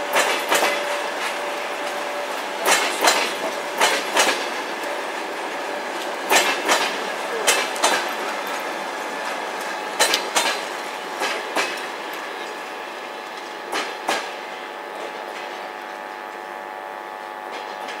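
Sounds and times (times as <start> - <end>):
train wheels clacking over rail joint: 0.0 - 16.5, 17.4 - 18.0
train rolling rumble: 0.0 - 18.0.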